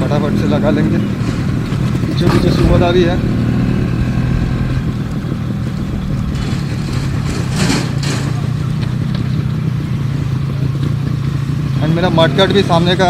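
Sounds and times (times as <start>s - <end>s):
motorcycle engine running: 0.0s - 13.0s
road and wind rush: 0.0s - 13.0s.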